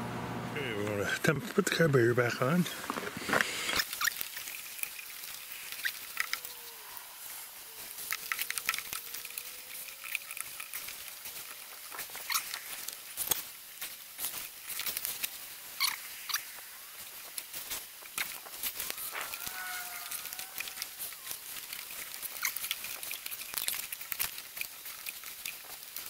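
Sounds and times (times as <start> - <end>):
metal parts clicking and clinking: 3.8 - 26.0.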